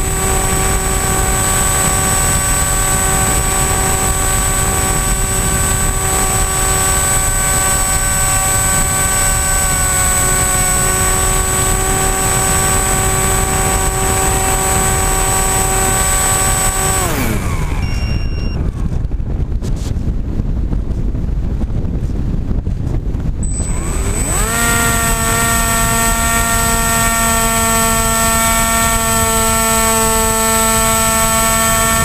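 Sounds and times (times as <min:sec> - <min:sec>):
electric motor and propeller whining: 0:00.0 - 0:20.0, 0:23.2 - 0:32.0
wind rushing: 0:00.0 - 0:32.0.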